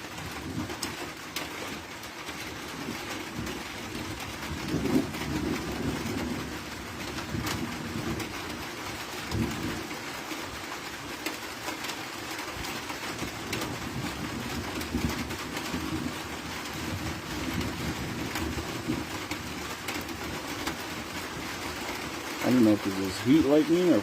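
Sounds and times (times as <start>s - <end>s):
low rolling thunder: 0.0s - 11.0s, 12.6s - 24.0s
steady rain ticking: 0.0s - 24.0s.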